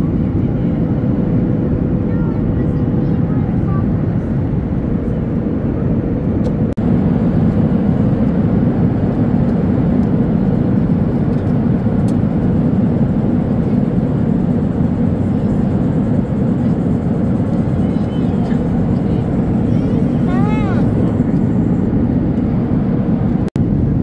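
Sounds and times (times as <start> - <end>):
airliner cabin roar: 0.0 - 24.0.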